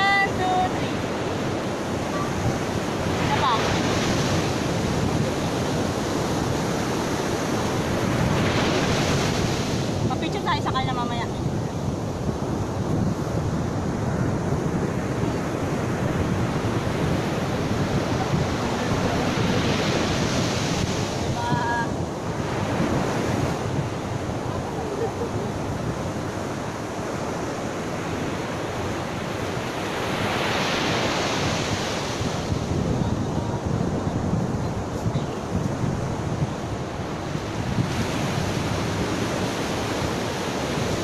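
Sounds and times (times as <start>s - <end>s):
surf breaking on beach: 0.0s - 41.0s
wind buffeting microphone: 0.0s - 41.0s.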